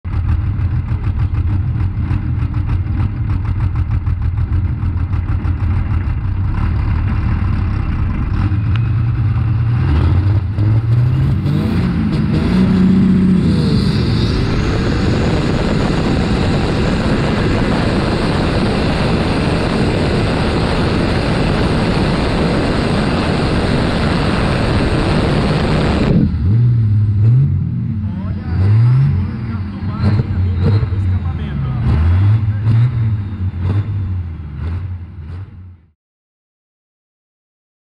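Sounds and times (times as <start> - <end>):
tractor engine revving: 0.0 - 35.9.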